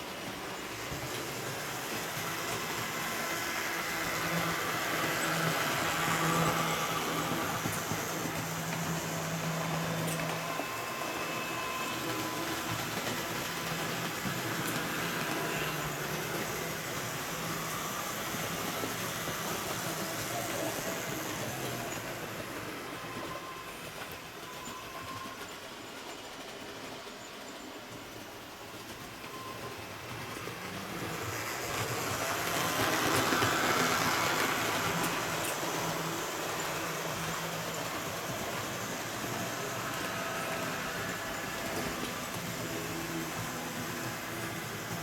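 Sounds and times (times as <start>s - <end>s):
model train running on track: 0.0s - 45.0s
wheels on rails: 0.0s - 45.0s.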